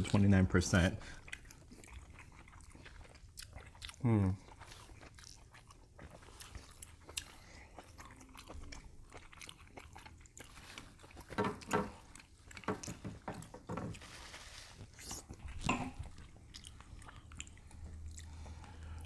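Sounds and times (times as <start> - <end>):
chewing and mouth sounds: 0.0 - 19.0.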